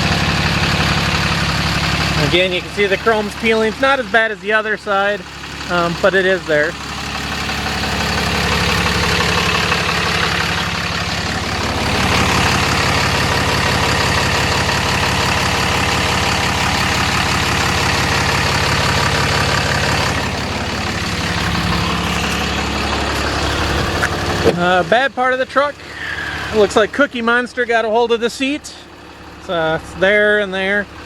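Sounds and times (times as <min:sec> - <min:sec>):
diesel truck engine idling: 0:00.0 - 0:31.0.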